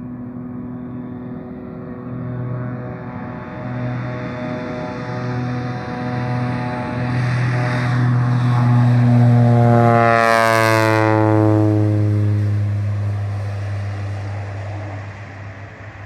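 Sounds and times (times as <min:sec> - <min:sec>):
propeller plane passing overhead: 0:00.0 - 0:16.0.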